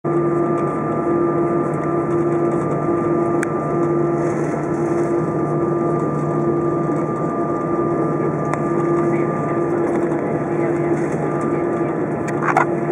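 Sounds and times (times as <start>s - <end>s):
airplane cabin engine hum: 0.1s - 12.9s.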